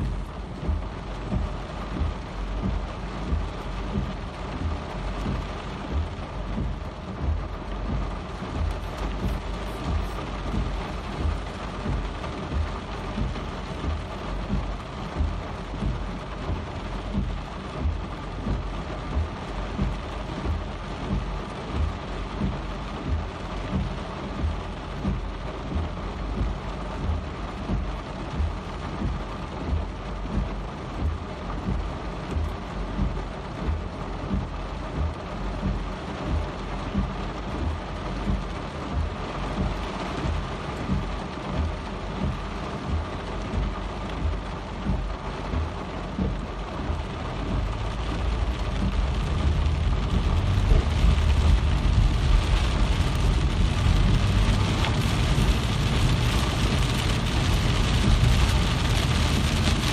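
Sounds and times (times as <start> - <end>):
low repeating thud: 0.0 - 59.9
steady rain: 0.0 - 59.9.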